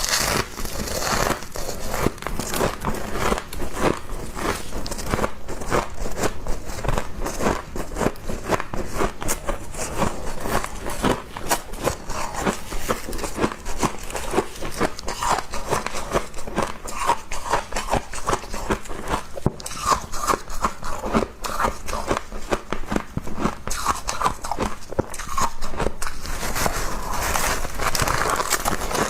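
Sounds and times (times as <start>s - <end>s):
person chewing crunchy frost: 0.0s - 29.0s.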